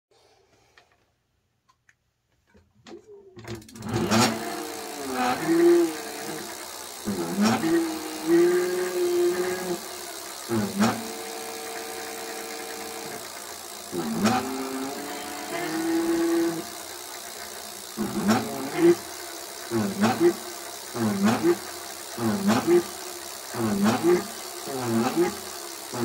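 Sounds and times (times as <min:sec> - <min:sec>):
electric hub motor whining: 0:03.5 - 0:26.0.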